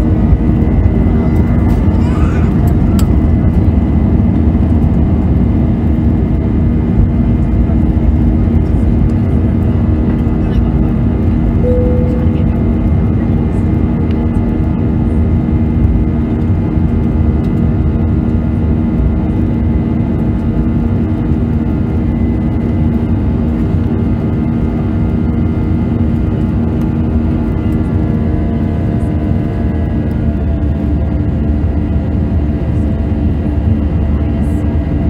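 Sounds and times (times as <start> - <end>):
jet engines rumbling in cabin: 0.0 - 35.0.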